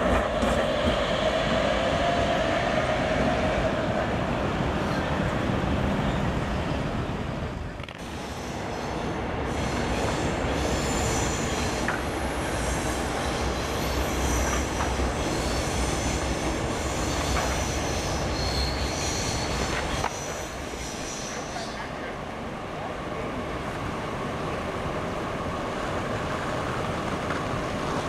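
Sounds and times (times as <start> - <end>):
tram low rumble: 0.0 - 28.0
tram wheels squealing on rails: 0.0 - 28.0.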